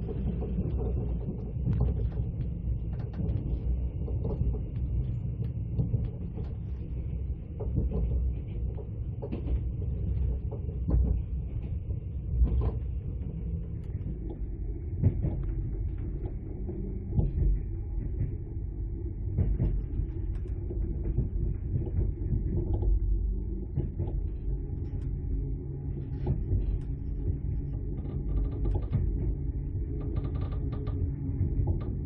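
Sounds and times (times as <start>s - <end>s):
train rumble inside carriage: 0.0s - 32.0s.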